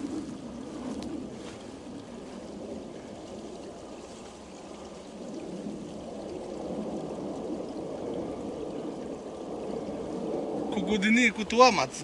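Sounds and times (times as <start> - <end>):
water rushing in a channel: 0.0 - 12.0.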